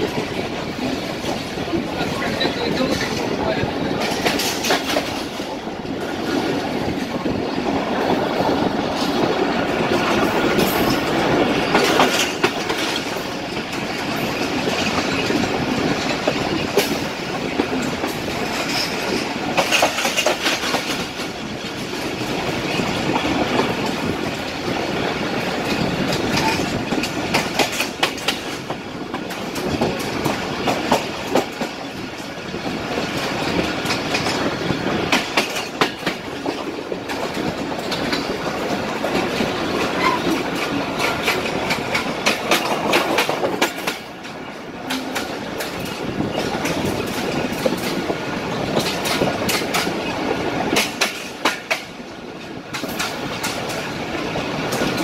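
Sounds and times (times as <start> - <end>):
train rumbling along track: 0.0 - 55.0
wheels clicking over rail joints: 0.0 - 55.0.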